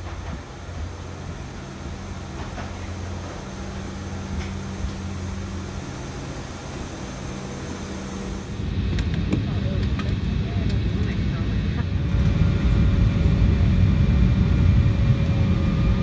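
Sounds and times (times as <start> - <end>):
high steady whine: 0.0 - 16.0
low mechanical hum: 0.0 - 16.0.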